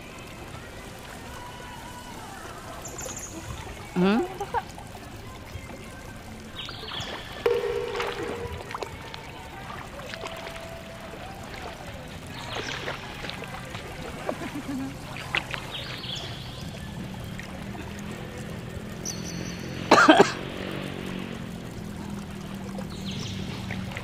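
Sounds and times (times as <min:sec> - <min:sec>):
seawater splashing and lapping: 0:00.0 - 0:24.0.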